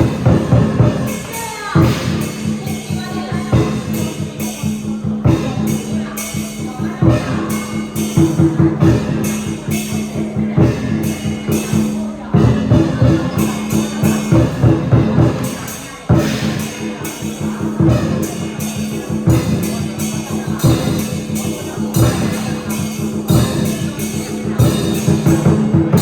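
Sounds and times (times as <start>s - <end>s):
cymbal clashes: 0.0s - 26.0s
drum beating fast rhythm: 0.0s - 26.0s.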